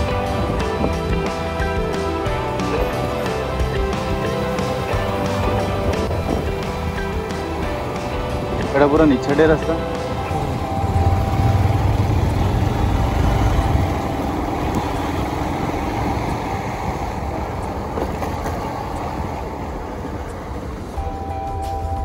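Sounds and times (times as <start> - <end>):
road hiss: 0.0 - 22.0
vehicle rumble: 0.0 - 22.0.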